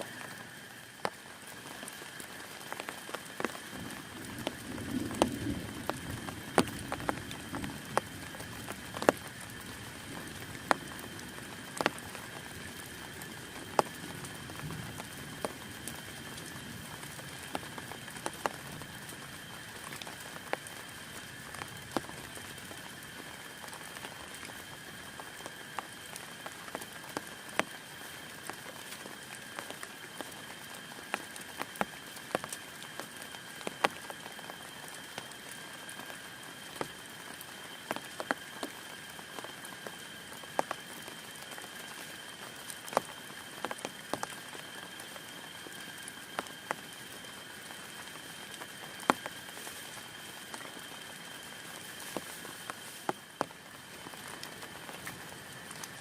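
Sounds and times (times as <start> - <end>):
rain on a tent: 0.0 - 56.0.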